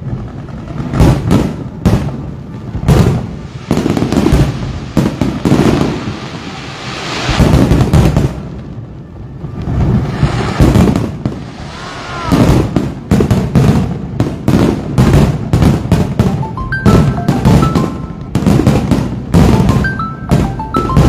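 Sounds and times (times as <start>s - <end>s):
fireworks booming and banging: 0.0s - 21.0s.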